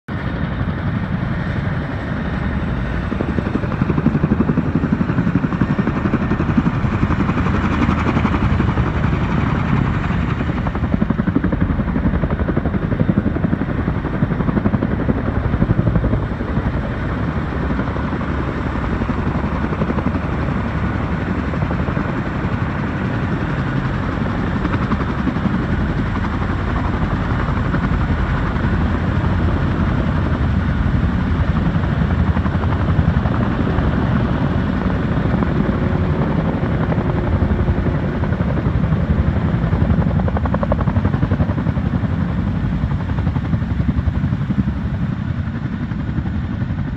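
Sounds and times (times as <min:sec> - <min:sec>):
helicopter rotors chopping: 0:00.1 - 0:46.9.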